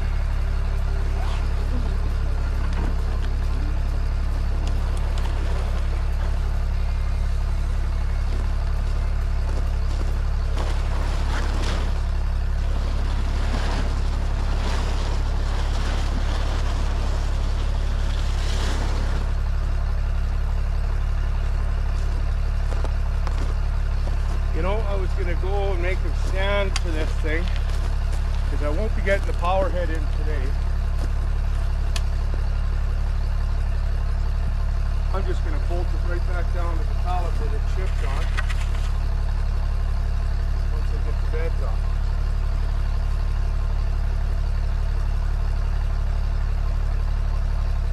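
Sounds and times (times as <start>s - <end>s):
heavy machine engine idling: 0.0s - 47.9s.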